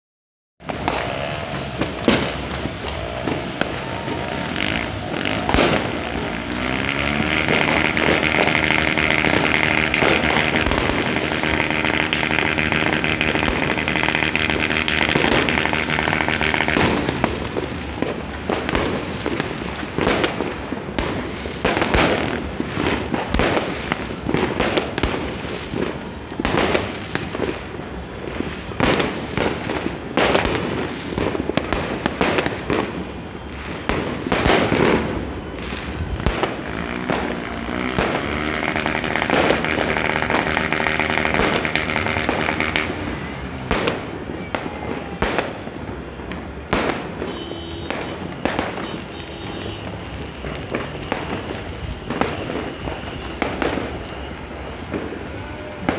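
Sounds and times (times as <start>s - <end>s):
firecracker bangs and crackles: 0.6s - 55.9s
firework fountain hissing: 0.6s - 55.9s.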